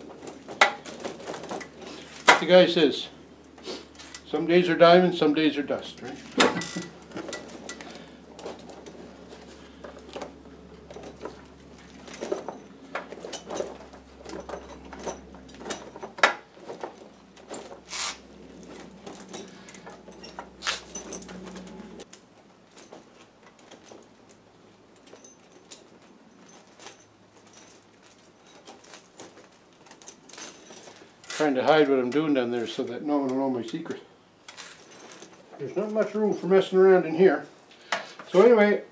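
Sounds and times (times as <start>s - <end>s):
steel tire chains clinking: 0.0s - 37.1s.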